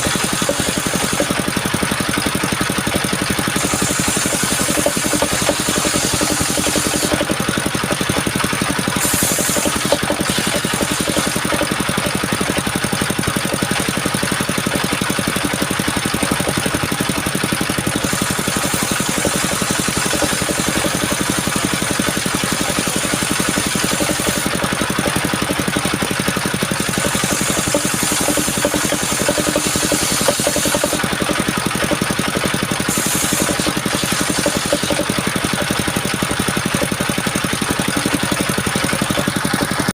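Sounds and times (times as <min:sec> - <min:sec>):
sawmill engine throbbing: 0:00.0 - 0:39.9.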